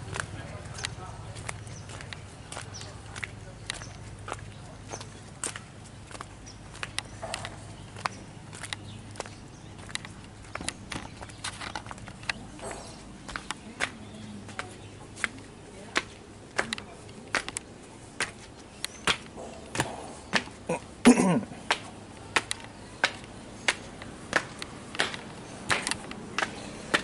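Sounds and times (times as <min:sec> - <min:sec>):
footsteps on stairs: 0:00.0 - 0:20.9, 0:21.6 - 0:27.0.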